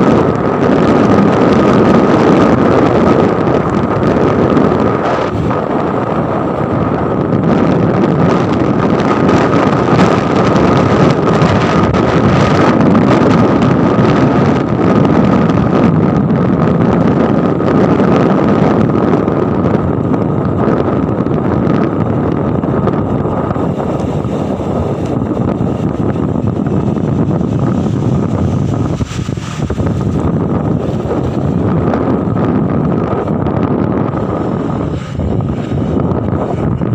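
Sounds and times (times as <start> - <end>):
moving vehicle rushing noise: 0.0 - 36.9
thin whine: 0.0 - 36.9
wind buffeting microphone: 0.0 - 36.9.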